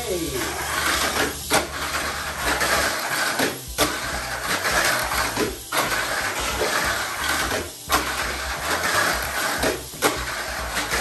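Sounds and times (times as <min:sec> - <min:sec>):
toy car clicking on track: 0:00.0 - 0:11.0
toy car motor buzzing whine: 0:00.0 - 0:11.0.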